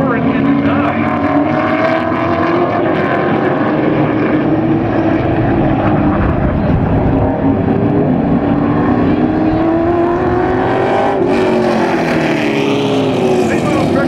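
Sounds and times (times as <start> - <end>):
race truck engines running: 0.0 - 14.0.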